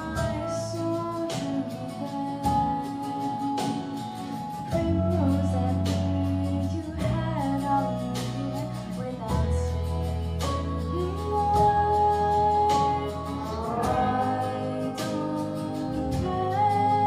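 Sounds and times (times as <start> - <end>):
guitar: 0.0 - 17.0
person singing: 0.0 - 17.0
sustained bass notes: 0.0 - 17.0.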